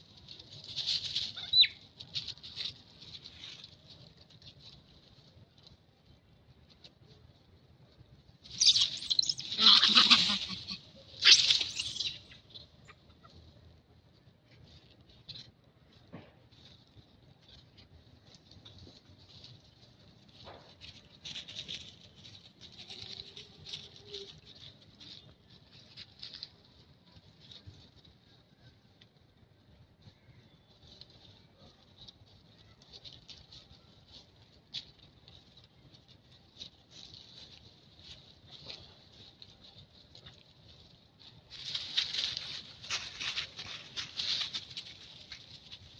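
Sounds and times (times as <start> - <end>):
rustling of dry leaf litter: 0.0 - 45.9.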